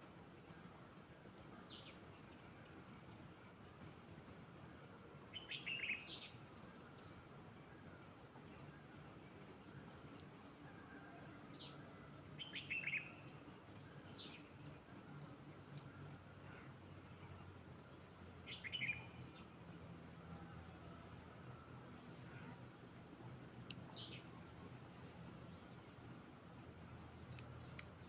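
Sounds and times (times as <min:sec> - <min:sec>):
songbird chirping: 0:00.4 - 0:28.0.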